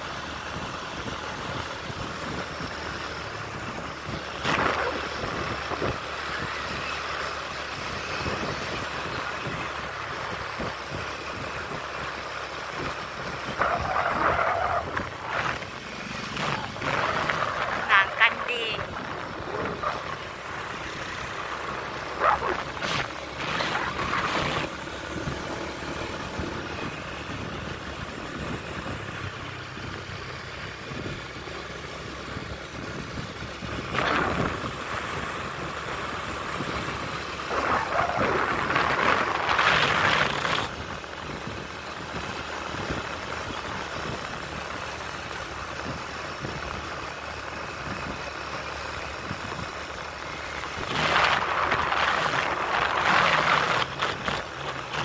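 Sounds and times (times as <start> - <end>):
vehicle road noise: 0.0 - 55.0.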